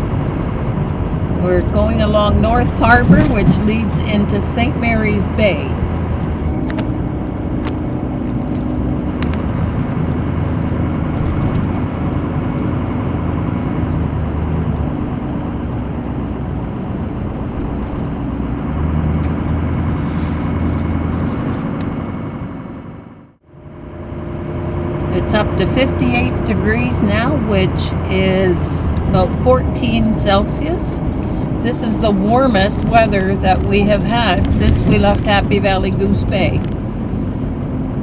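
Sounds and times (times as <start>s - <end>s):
road and engine noise inside vehicle: 0.0s - 38.0s.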